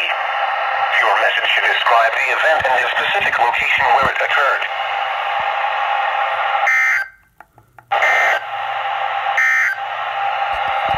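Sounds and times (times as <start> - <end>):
radio hiss: 0.0 - 7.0, 7.9 - 10.9.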